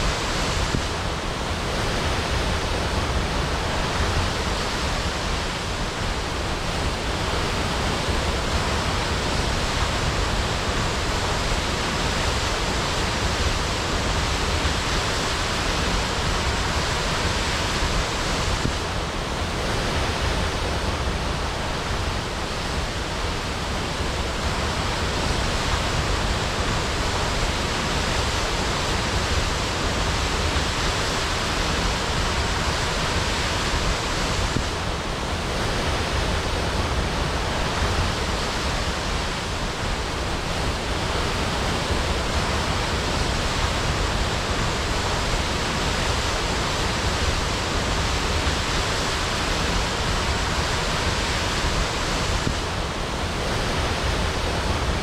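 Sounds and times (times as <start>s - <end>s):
waterfall crashing: 0.0s - 55.0s.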